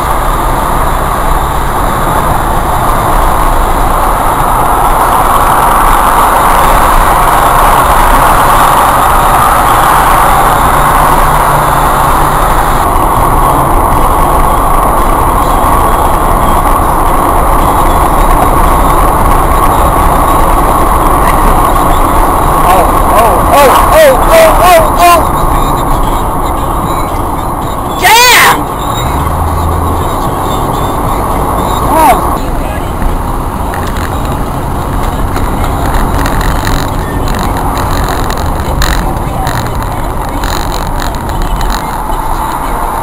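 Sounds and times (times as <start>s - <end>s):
car road noise from inside: 0.0s - 43.0s.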